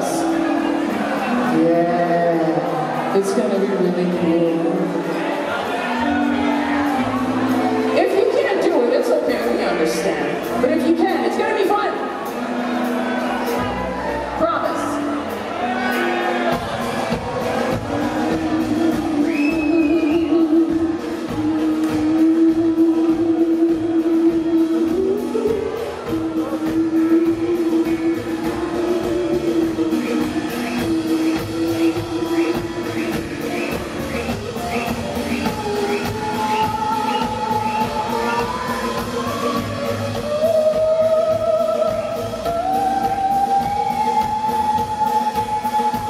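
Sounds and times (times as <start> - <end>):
brass band playing: 0.0 - 42.5
drums keeping a steady beat: 0.0 - 46.0.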